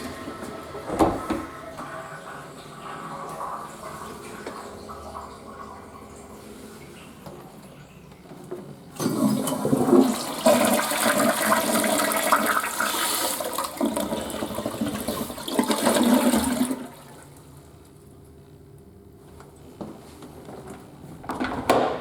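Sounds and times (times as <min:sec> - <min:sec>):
toilet flushing: 0:00.0 - 0:17.8.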